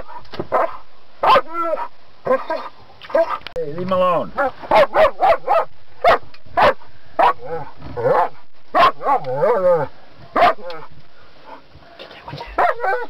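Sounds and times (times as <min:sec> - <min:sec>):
dog barking: 0:00.0 - 0:03.4, 0:04.4 - 0:09.7, 0:10.3 - 0:11.6, 0:12.5 - 0:13.0
dog yelping: 0:00.0 - 0:03.4, 0:04.4 - 0:10.9, 0:12.5 - 0:13.0.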